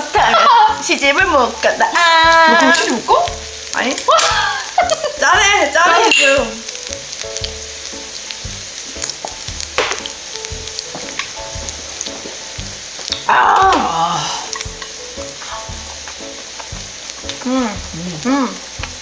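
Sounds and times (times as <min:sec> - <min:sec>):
meat sizzling on a grill plate: 0:00.0 - 0:19.0.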